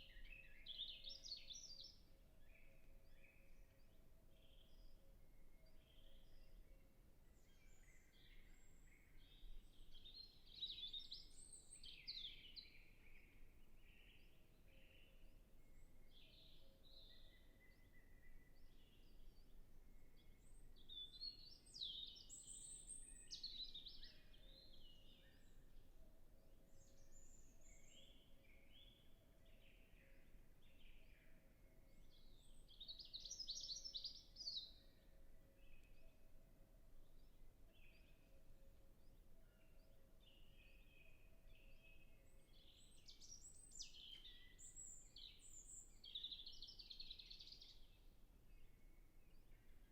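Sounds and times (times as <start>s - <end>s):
robin singing faintly: 0.0s - 49.9s.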